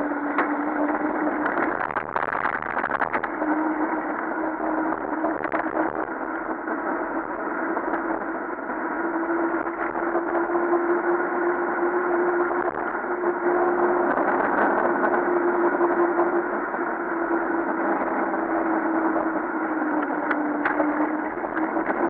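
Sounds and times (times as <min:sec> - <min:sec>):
humming tone: 0:00.0 - 0:22.0
tyres and wind rushing: 0:00.0 - 0:22.0.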